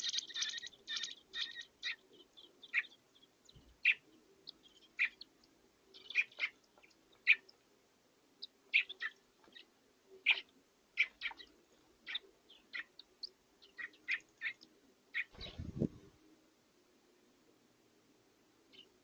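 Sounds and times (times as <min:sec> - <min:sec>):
young birds chirping: 0:00.0 - 0:07.6, 0:08.4 - 0:16.0.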